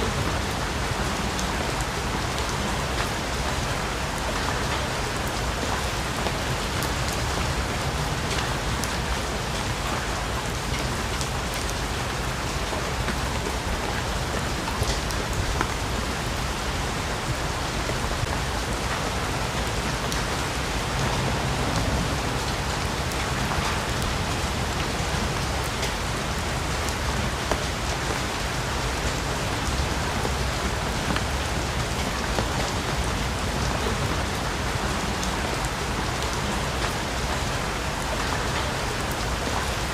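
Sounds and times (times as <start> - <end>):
heavy rain in forest: 0.0 - 39.9.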